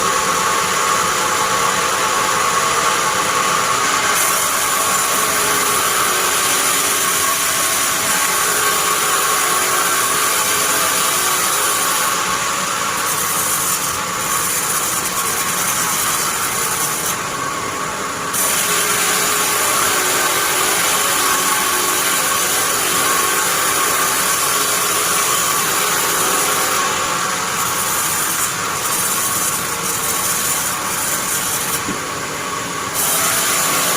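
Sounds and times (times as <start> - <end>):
bandsaw cutting wood: 1.2 - 33.9.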